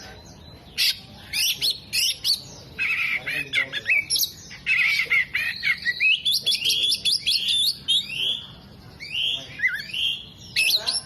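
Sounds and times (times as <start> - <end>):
songbird singing chirps and whistles: 0.0 - 11.0.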